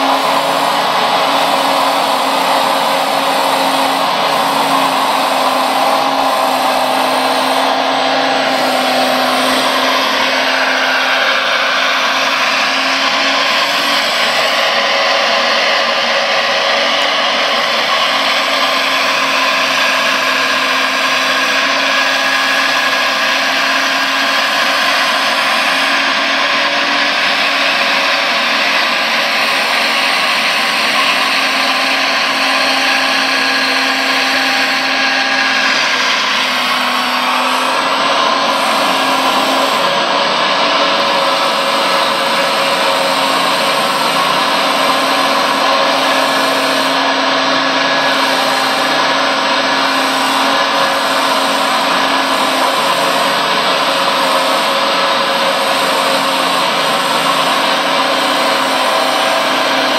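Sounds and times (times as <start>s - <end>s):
model excavator motors whirring: 0.0s - 59.9s.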